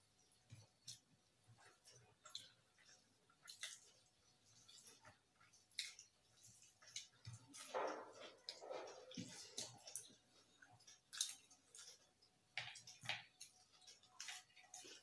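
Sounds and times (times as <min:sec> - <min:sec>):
chewing: 0:00.0 - 0:15.0
fingers mixing food on plates: 0:00.0 - 0:15.0.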